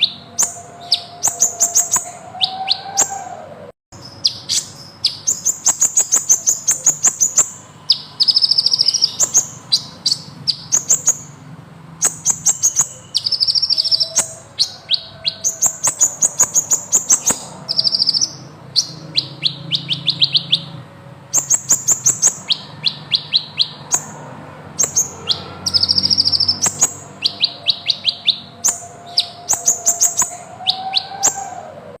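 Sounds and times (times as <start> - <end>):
bird singing rapid high trills: 0.0 - 3.4, 4.0 - 31.9.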